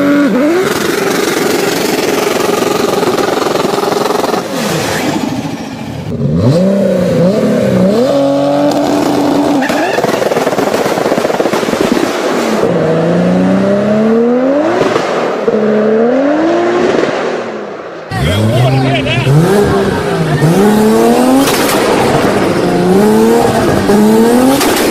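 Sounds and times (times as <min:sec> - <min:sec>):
car engine accelerating hard: 0:00.0 - 0:24.9.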